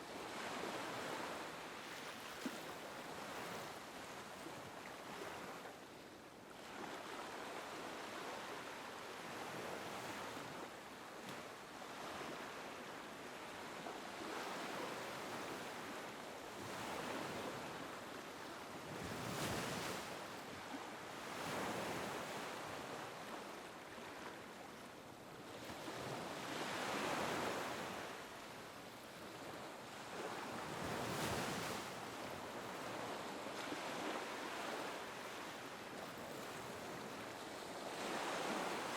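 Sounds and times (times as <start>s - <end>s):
small waves lapping on beach: 0.0s - 38.9s.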